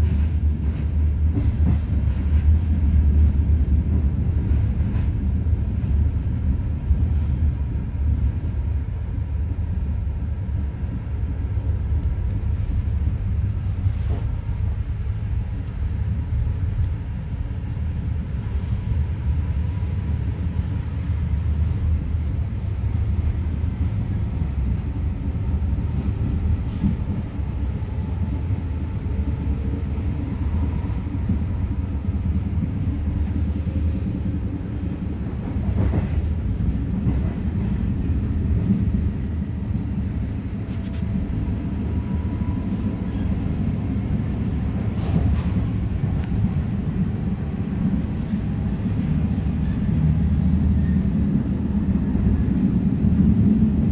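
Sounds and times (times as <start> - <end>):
train carriage rumbling: 0.0 - 53.9.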